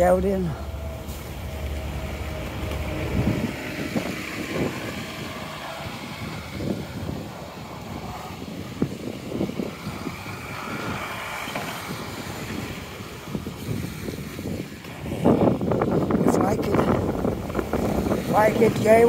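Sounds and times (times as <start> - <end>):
hiss of passing vehicles: 0.0 - 19.0
low engine rumble: 0.0 - 19.0.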